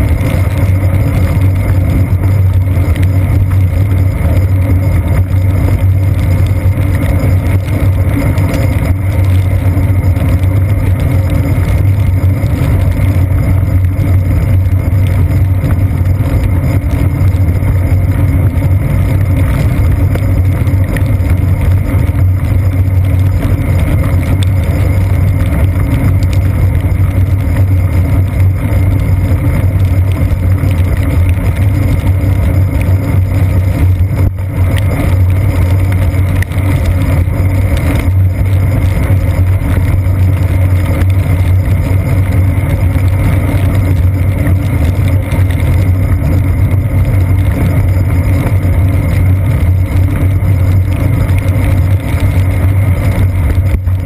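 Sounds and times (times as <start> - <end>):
bicycle road and wind noise: 0.0 - 54.0
strong low hum: 0.0 - 54.0.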